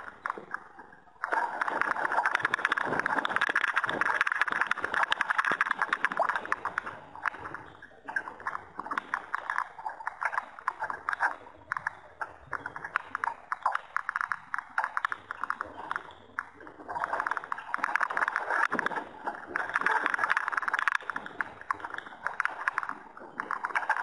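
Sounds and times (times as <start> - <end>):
small waves slapping against hull: 0.0 - 24.0.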